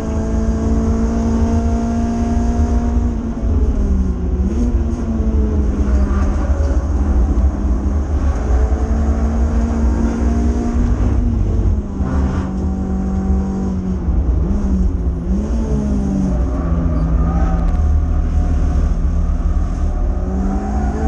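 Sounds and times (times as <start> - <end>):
road and wind rumble: 0.0 - 21.0.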